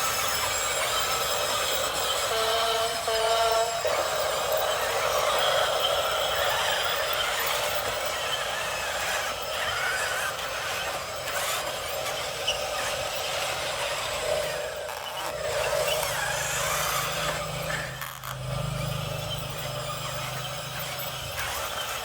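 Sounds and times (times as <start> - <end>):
toy vehicle motors whirring: 0.0 - 22.0.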